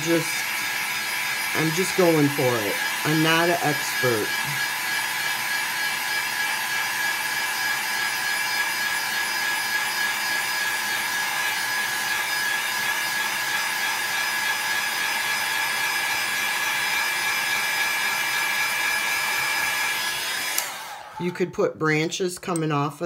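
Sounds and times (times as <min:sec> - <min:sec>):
electric blower whirring: 0:00.0 - 0:21.5.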